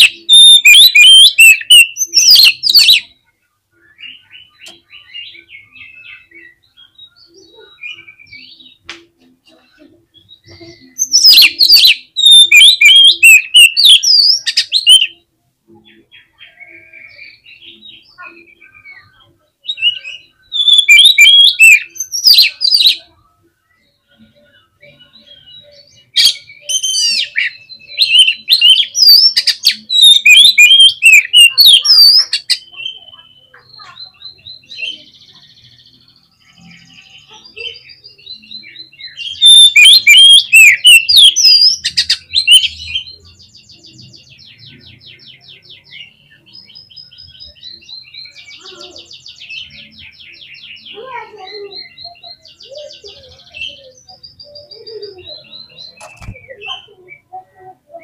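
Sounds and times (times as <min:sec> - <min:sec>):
magpie-robin singing whistles and trills: 0:00.0 - 0:03.2, 0:03.8 - 0:08.9, 0:10.1 - 0:15.2, 0:15.8 - 0:58.0.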